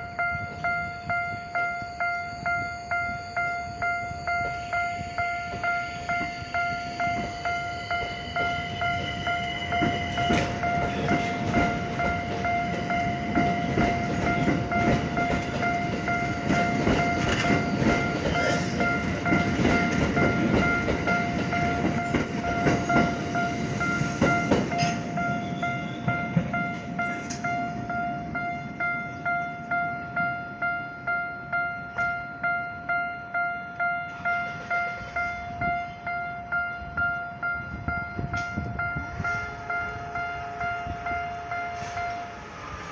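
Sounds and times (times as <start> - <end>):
level-crossing warning bell: 0.0 - 42.9
train rumbling: 0.0 - 42.9.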